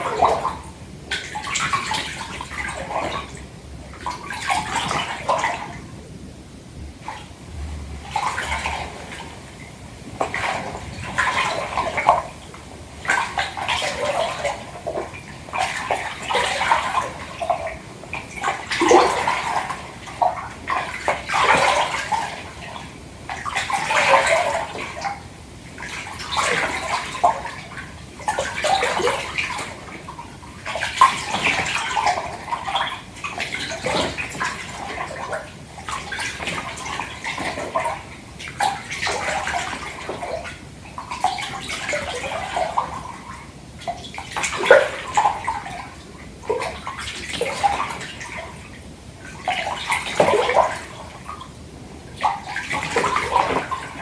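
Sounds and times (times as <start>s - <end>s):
bath water sloshing and splashing: 0.0s - 54.0s.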